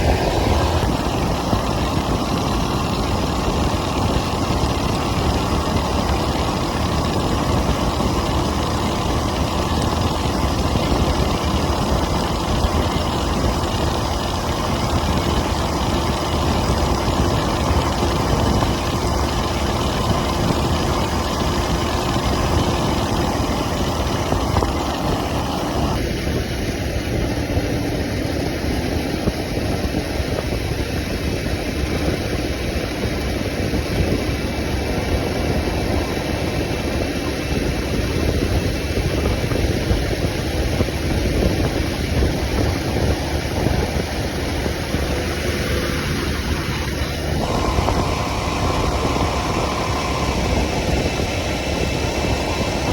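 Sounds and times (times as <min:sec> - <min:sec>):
motorcycle engine running: 0:00.0 - 0:52.9
street noise: 0:00.0 - 0:52.9.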